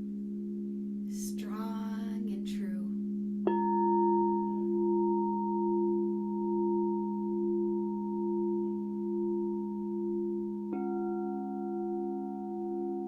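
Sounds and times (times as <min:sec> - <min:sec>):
singing bowl ringing: 0:00.0 - 0:02.4, 0:03.0 - 0:13.0
low hum of singing bowl: 0:00.0 - 0:13.0.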